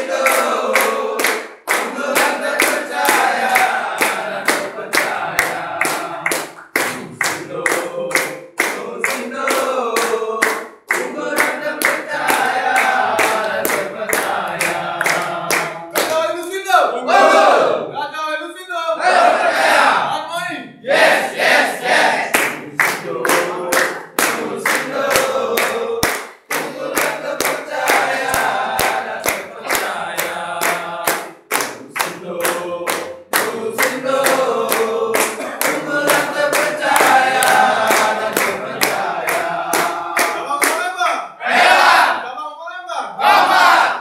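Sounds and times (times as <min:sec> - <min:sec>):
group singing a jingle: 0:00.0 - 0:16.3, 0:16.9 - 0:17.9, 0:19.0 - 0:20.1, 0:20.8 - 0:40.6, 0:41.4 - 0:42.2, 0:43.2 - 0:44.0
hands clapping along: 0:00.0 - 0:16.6, 0:22.3 - 0:41.1.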